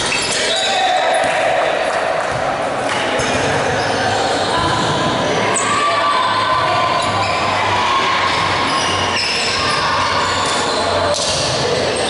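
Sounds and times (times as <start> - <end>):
players' voices: 0.0 - 12.0.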